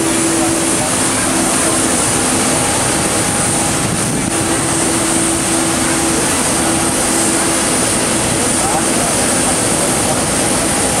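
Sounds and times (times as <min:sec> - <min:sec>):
jet engines roaring: 0:00.0 - 0:11.0
low hum: 0:00.0 - 0:11.0
thin high whine: 0:00.0 - 0:11.0.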